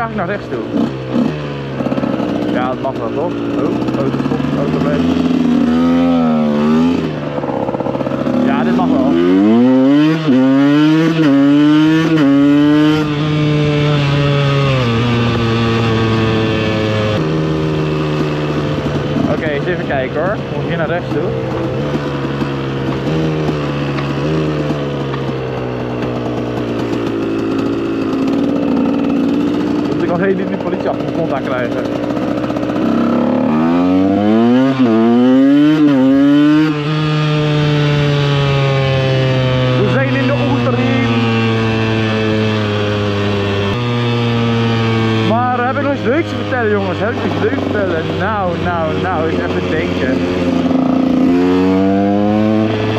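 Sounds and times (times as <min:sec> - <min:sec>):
two-stroke engine pulling hard: 0:00.0 - 0:52.9.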